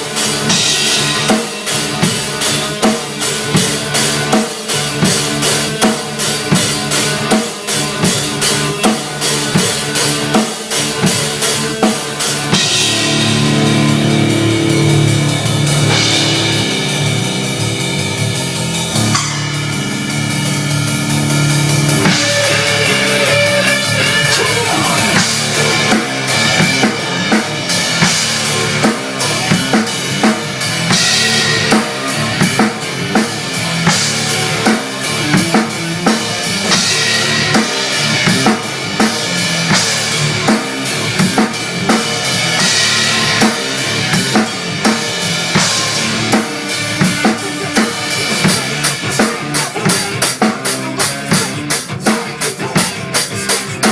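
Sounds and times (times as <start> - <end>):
drum kit played hard: 0.0 - 53.9
recorded rock music: 0.0 - 53.9.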